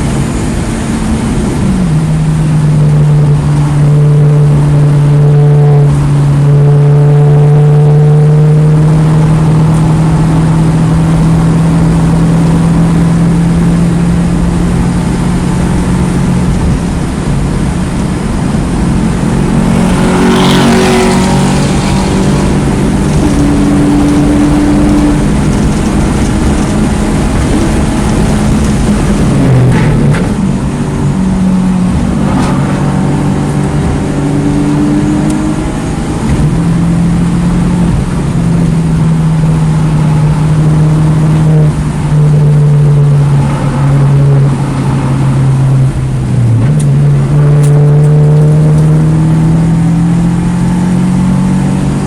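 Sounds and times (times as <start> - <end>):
car engine running hard: 0.0 - 52.0
loud road noise: 0.0 - 52.0.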